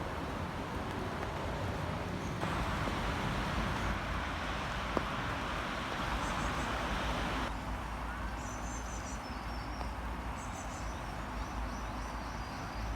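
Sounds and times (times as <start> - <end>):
rain falling in forest: 0.0 - 12.9.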